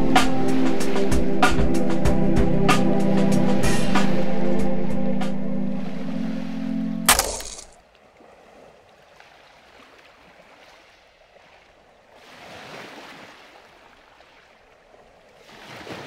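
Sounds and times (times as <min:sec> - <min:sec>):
faint ocean waves on shore: 0:00.0 - 0:16.0.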